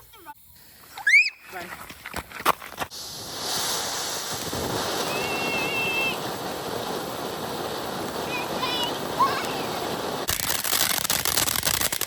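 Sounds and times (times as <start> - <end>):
firework sparks hissing: 0.5 - 12.0
firework pops: 1.8 - 12.0.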